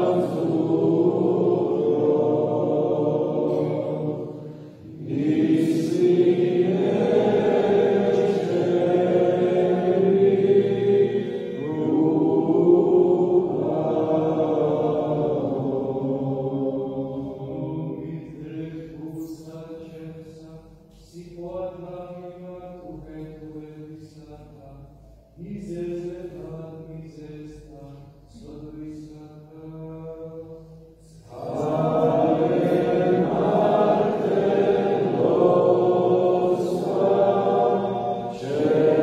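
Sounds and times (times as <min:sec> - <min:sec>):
voices singing a chant: 0:00.0 - 0:24.3, 0:25.4 - 0:39.0.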